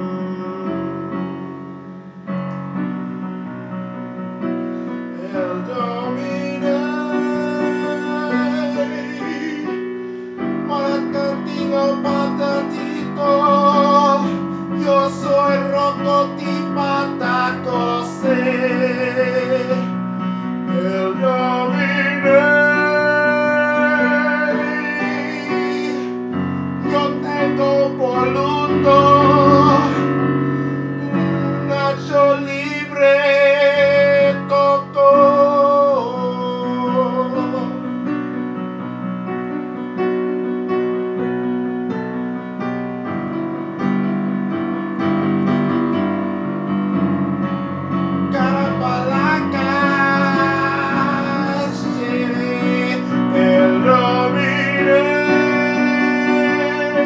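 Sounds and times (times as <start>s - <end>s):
keyboard chords with lead melody: 0.0s - 57.0s.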